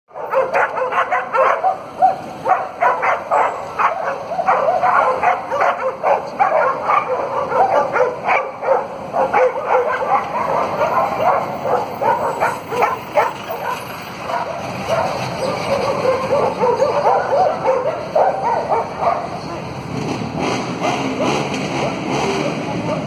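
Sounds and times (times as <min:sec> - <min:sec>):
dogs barking and yapping: 0:00.1 - 0:19.7.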